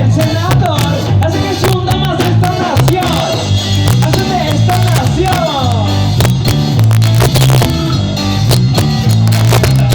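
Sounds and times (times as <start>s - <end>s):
bass line: 0.0s - 9.9s
drum beat: 0.0s - 9.9s.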